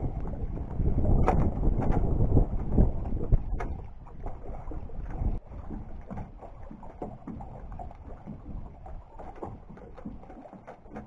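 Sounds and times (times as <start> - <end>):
water lapping against dock: 0.0 - 11.0
wind rumbling on microphone: 0.0 - 11.0.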